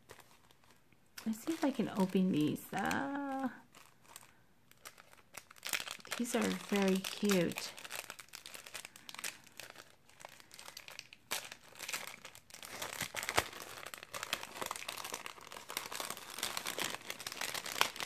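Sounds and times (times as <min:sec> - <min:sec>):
plastic packet crinkling: 0:00.0 - 0:18.0.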